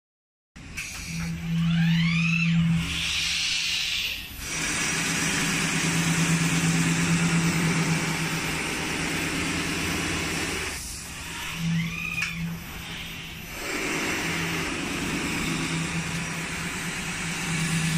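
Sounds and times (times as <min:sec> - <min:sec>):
low motor hum: 0:01.1 - 0:03.2, 0:04.3 - 0:17.9.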